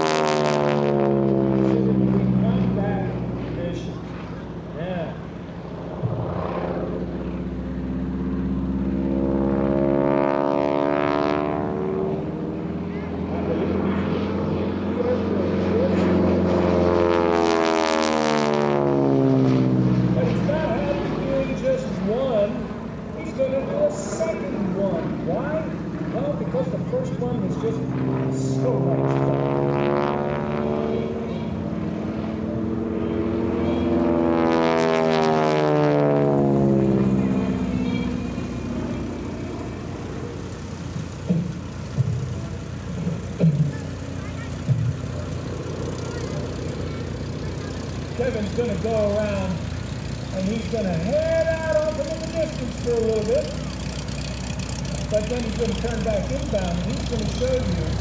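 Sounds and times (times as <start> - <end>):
propeller plane engine passing: 0.0 - 58.0.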